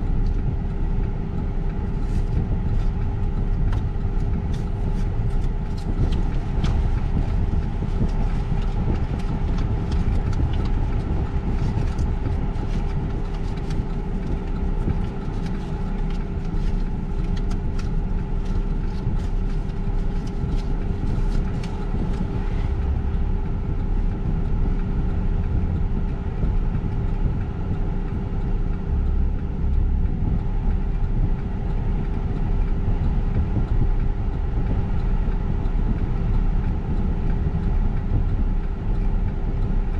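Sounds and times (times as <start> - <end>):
car engine idling: 0.0 - 39.9
freight train rumbling: 0.0 - 39.9.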